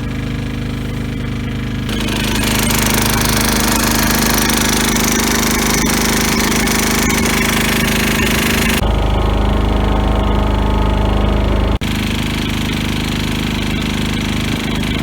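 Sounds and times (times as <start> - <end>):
engine idling and revving: 0.0 - 15.0.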